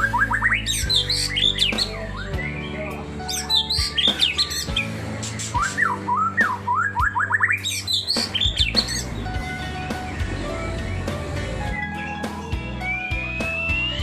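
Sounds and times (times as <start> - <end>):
background music: 0.0 - 14.0
songbird singing: 0.0 - 14.0.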